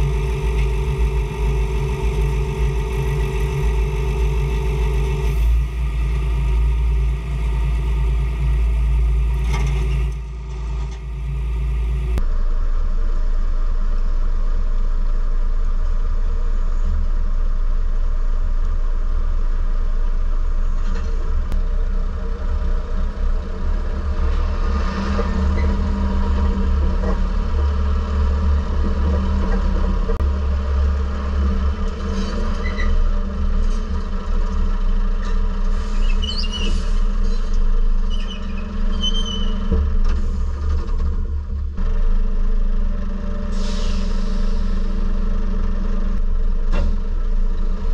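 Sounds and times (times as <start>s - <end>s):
diesel engine rumbling: 0.0s - 47.9s.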